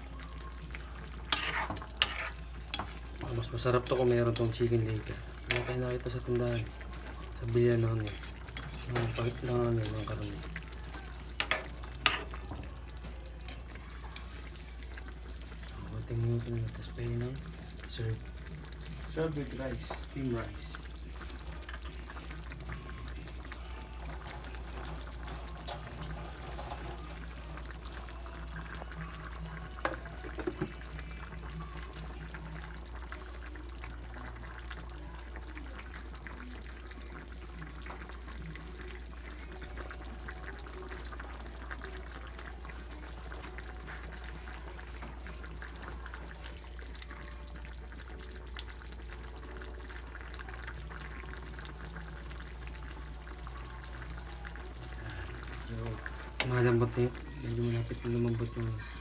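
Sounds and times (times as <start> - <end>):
stew bubbling in frying pan: 0.0 - 59.0.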